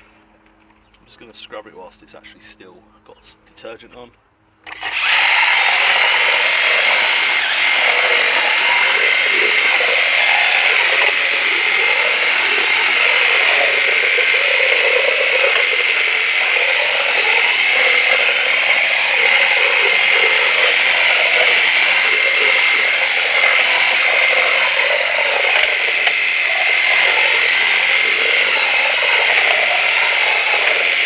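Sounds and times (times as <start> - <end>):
pressure washer motor whine: 4.7 - 31.0
water jet hissing on surface: 4.8 - 31.0.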